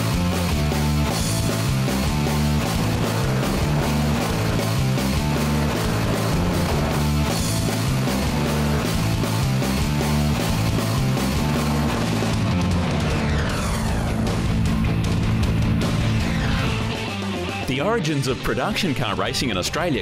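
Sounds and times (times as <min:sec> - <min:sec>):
hard rock music: 0:00.0 - 0:20.0.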